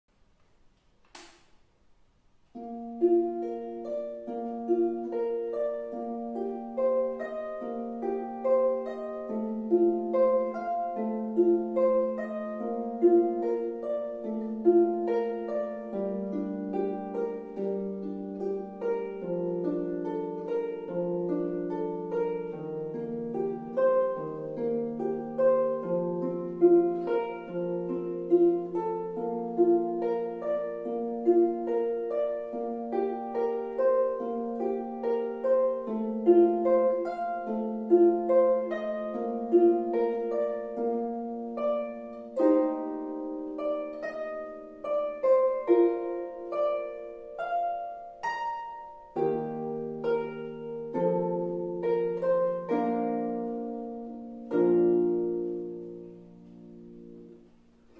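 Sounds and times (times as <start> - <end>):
harp playing melody: 2.5 - 57.9.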